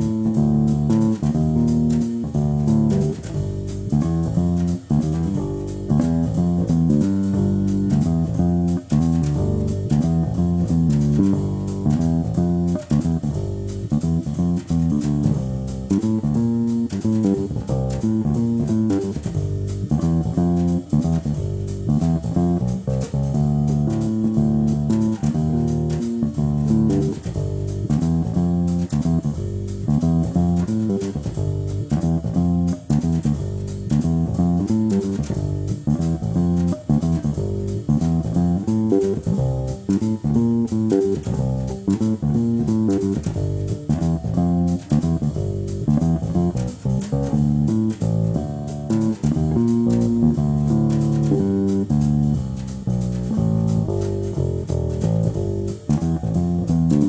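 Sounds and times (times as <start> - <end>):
jazz waltz backing track: 0.0 - 57.0.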